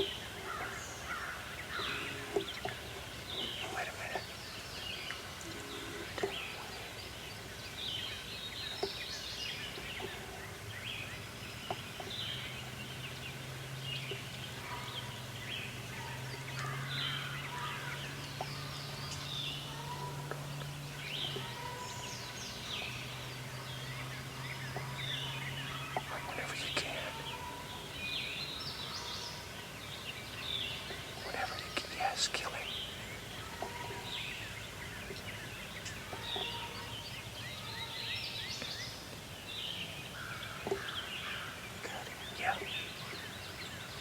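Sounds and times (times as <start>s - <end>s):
songbirds chirping: 0.0s - 44.0s.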